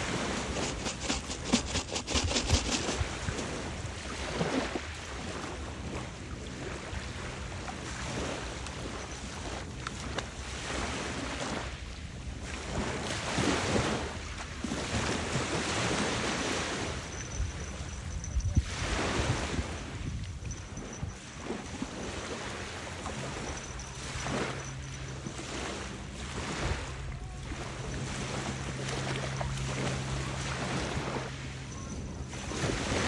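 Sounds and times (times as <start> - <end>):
small waves washing onto shore: 0.0 - 33.0.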